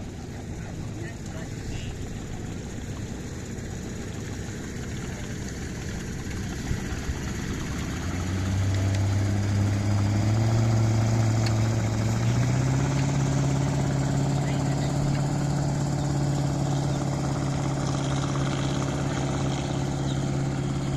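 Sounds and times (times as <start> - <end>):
boat engine rumbling: 0.0 - 20.9.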